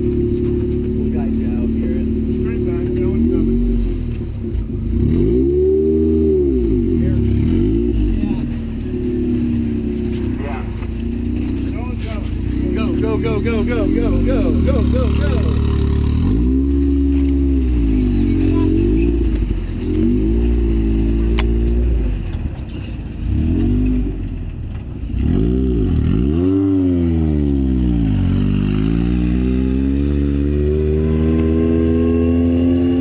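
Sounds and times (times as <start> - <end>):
race vehicle engine revving: 0.0 - 33.0.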